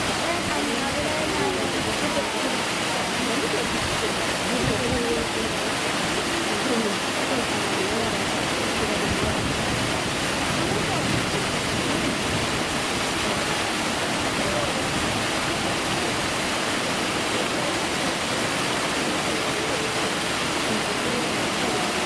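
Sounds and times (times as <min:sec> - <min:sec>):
faint chatter of visitors: 0:00.0 - 0:22.0
rushing water: 0:00.0 - 0:22.0.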